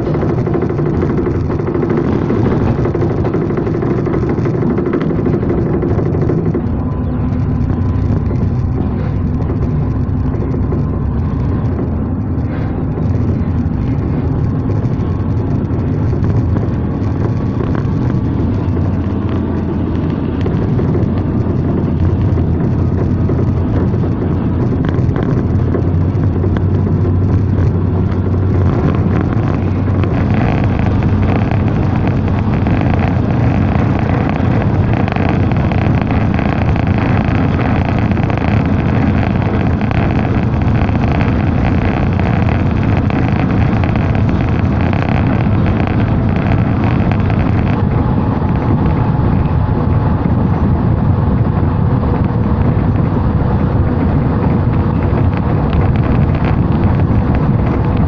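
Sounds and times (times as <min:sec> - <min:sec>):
low engine drone: 0:00.0 - 0:58.0
rushing air: 0:00.0 - 0:58.0
train wheels rumbling on rail: 0:00.0 - 0:58.0.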